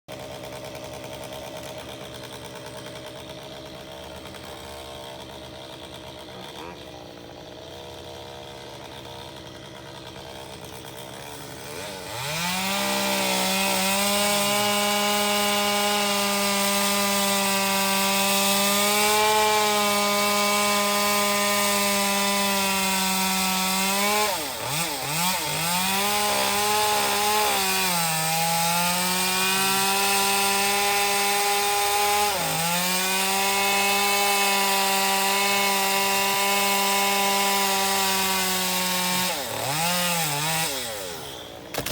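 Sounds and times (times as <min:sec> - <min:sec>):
chainsaw cutting tree trunk: 0:00.1 - 0:41.9.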